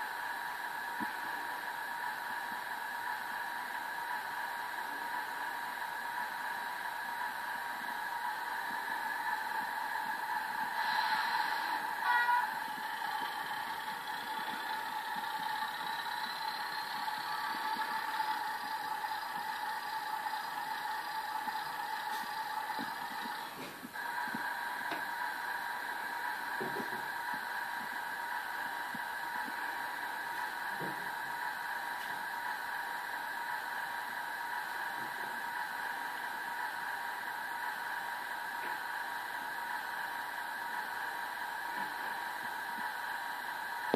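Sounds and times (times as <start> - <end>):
diesel engine sound effect: 0.0 - 38.4.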